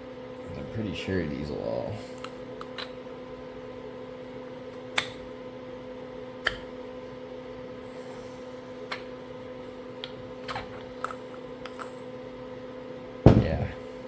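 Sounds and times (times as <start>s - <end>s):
steady low hum: 0.0s - 4.9s, 5.7s - 14.0s.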